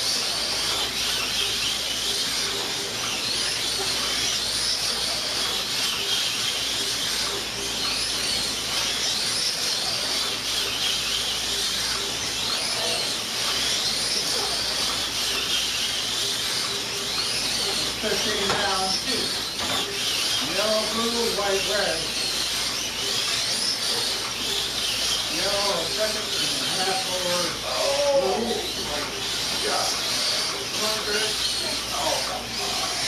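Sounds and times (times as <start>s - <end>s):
slot car motors whining: 0.0s - 33.0s.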